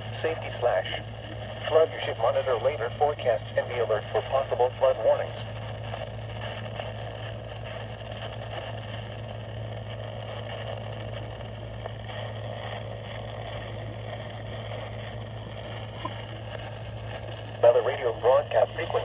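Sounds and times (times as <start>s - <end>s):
constant low hum: 0.0s - 19.0s
radio hiss: 0.0s - 19.0s.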